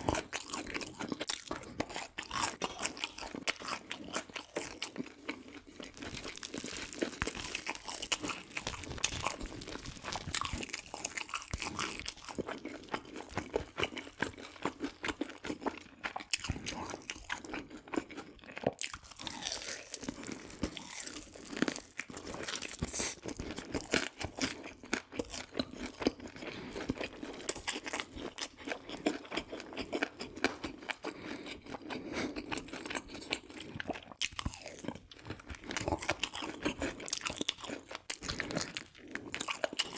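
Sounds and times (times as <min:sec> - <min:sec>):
crunching crispy fried food: 0:00.0 - 0:39.9.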